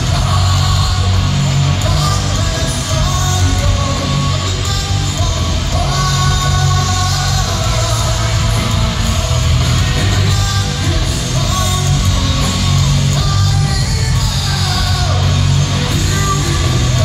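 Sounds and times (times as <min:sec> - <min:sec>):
distorted electric guitars: 0:00.0 - 0:17.0
heavy bass and drums: 0:00.0 - 0:17.0
heavy metal band playing live: 0:00.0 - 0:17.0.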